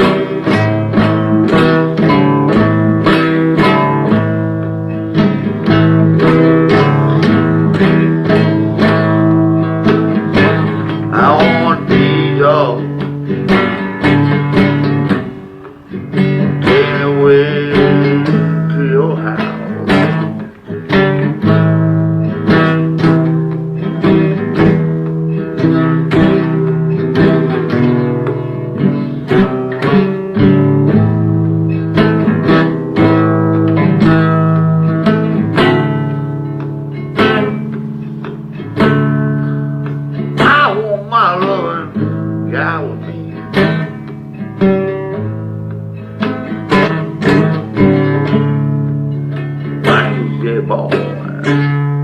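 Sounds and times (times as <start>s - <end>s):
acoustic guitar blues: 0.0s - 52.0s.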